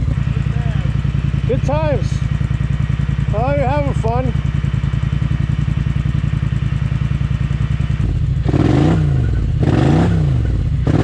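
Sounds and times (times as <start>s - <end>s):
atv engine idling and revving: 0.0s - 11.0s.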